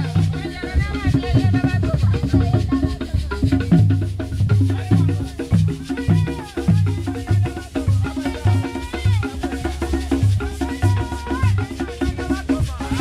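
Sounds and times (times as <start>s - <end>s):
light rattling percussion: 0.0s - 13.0s
music with drum beat and bass: 0.0s - 13.0s.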